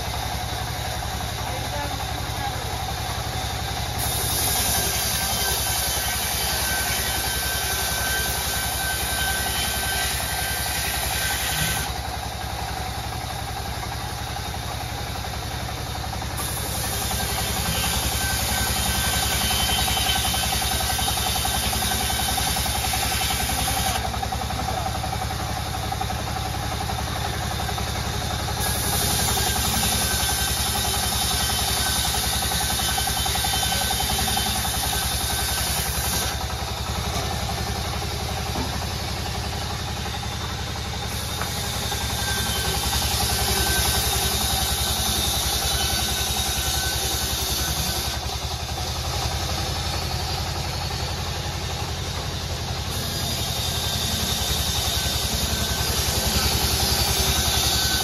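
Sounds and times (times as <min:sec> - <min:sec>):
band saw motor humming: 0:00.0 - 0:58.0
saw blade cutting wood: 0:03.8 - 0:12.3, 0:16.2 - 0:58.0.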